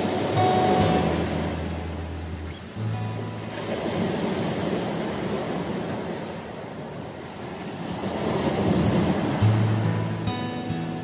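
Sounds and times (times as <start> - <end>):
waves washing over rocky shore: 0.0 - 11.0.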